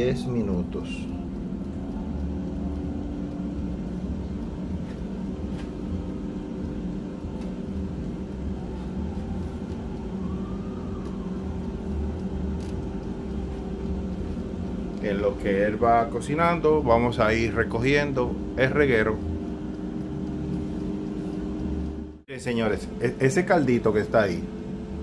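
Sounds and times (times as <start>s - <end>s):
air fryer fan whirring: 0.0s - 25.0s.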